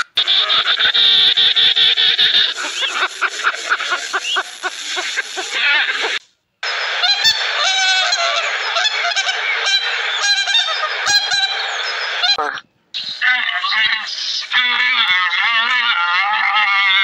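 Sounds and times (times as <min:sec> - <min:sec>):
geese honking: 0:00.0 - 0:06.2, 0:07.0 - 0:12.6, 0:13.2 - 0:17.0
penguins calling: 0:00.0 - 0:06.2, 0:07.0 - 0:17.0.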